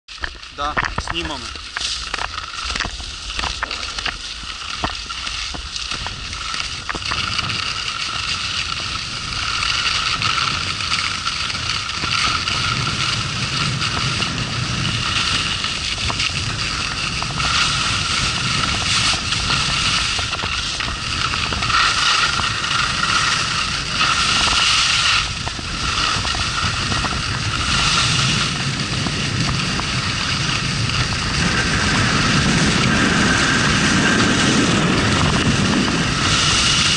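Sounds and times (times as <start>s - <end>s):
wind rushing over microphone: 0.2s - 36.9s
skis hissing on snow: 0.4s - 36.9s.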